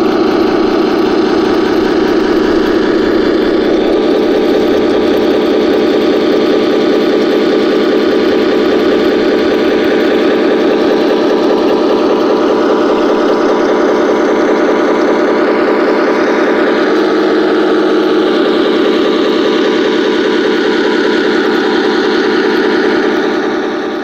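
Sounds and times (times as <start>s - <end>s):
toy tank engine running: 0.0s - 24.0s.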